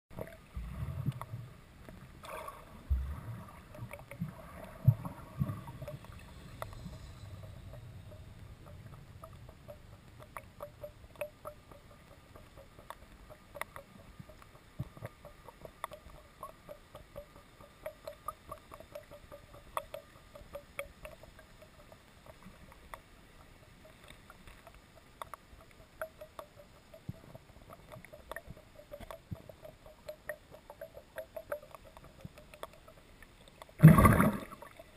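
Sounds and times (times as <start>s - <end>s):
underwater clicks and ticks: 0.1s - 34.9s
faint pulsing hum: 0.2s - 34.9s.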